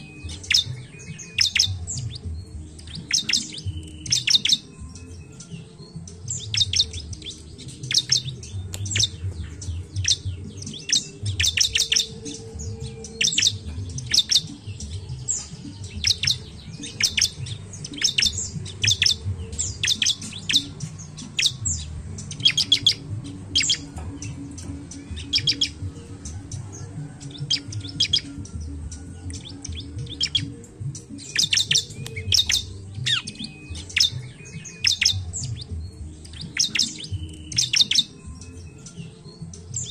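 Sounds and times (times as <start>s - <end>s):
bird high sharp chirps: 0.0s - 39.9s.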